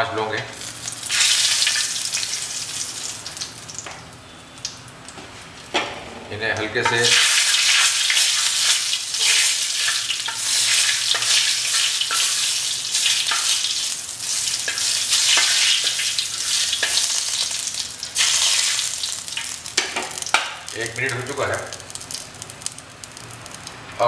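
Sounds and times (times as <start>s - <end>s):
spices sizzling in hot oil: 0.0s - 24.0s.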